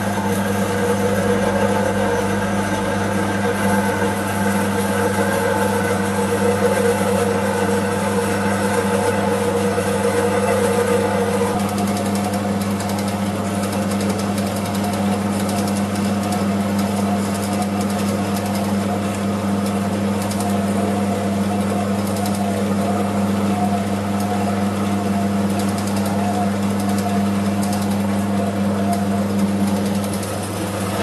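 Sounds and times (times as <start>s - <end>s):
bandsaw motor hum: 0.0s - 31.0s.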